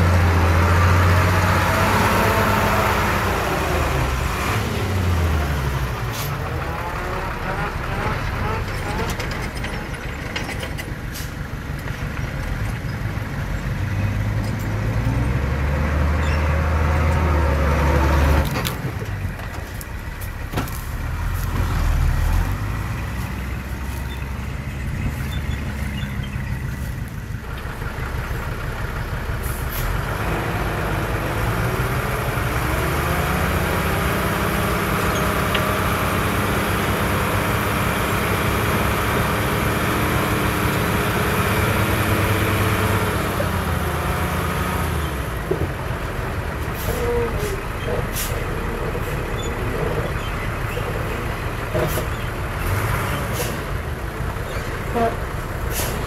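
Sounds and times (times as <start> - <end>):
heavy diesel engine running: 0.0 - 15.6, 16.2 - 56.0.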